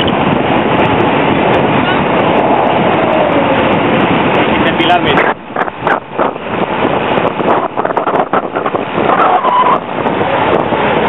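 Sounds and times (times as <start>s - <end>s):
rolling road noise: 0.0s - 11.0s
wind on microphone: 0.0s - 11.0s.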